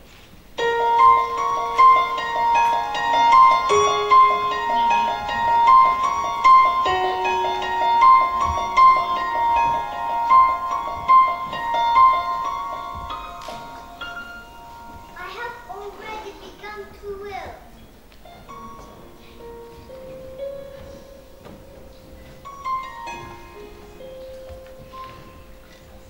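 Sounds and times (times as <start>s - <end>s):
piano music: 0.4s - 26.0s.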